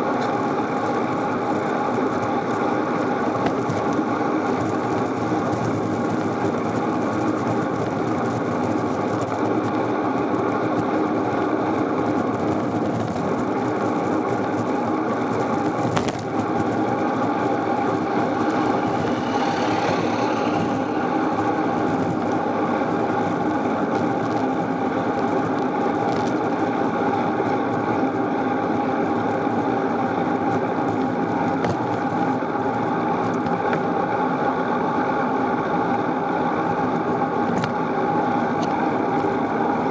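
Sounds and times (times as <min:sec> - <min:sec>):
bicycle rolling and wind noise: 0:00.0 - 0:39.9.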